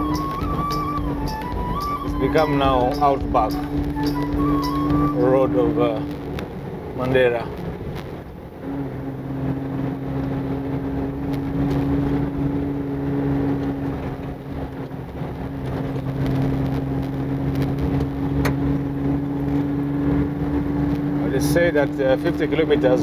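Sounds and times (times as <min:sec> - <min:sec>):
tyre and road noise: 0:00.0 - 0:23.0
vehicle engine drone: 0:00.0 - 0:23.0.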